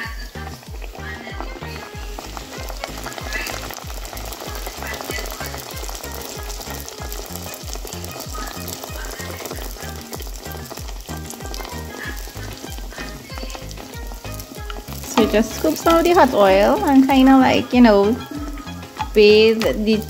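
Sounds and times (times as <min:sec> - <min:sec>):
dough sizzling in hot oil: 0:00.0 - 0:20.0
music with repeating bass line: 0:00.0 - 0:20.0.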